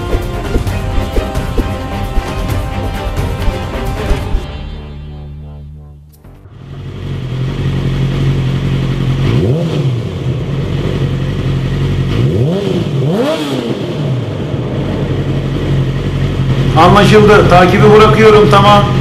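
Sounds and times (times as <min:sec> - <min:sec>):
motorcycle engine revving: 0:00.0 - 0:19.0
truck engine drone: 0:00.0 - 0:19.0.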